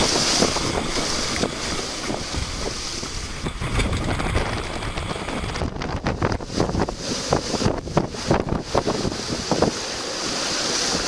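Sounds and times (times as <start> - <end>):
storm wind gusting: 0.0 - 11.0.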